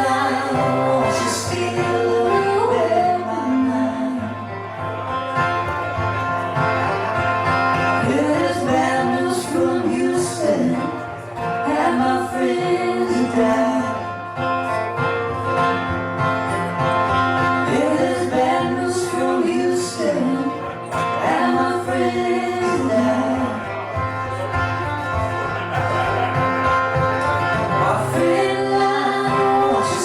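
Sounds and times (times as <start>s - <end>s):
bending lead melody: 0.0s - 30.0s
plucked guitar: 0.0s - 30.0s.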